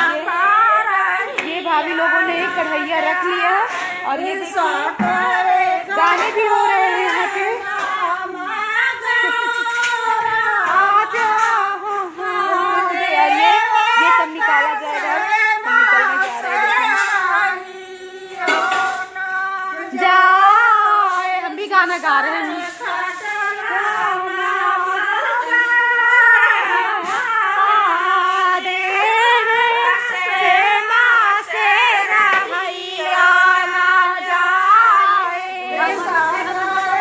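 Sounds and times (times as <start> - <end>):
women singing together: 0.0 - 37.0.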